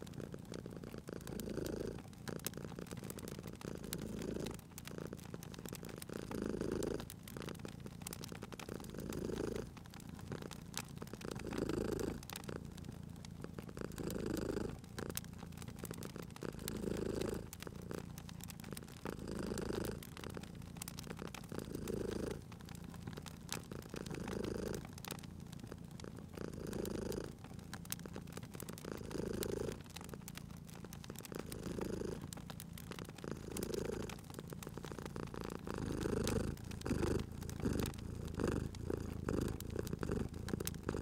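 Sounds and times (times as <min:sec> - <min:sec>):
cat purring: 0:00.0 - 0:41.0
wood fire crackling: 0:00.0 - 0:41.0.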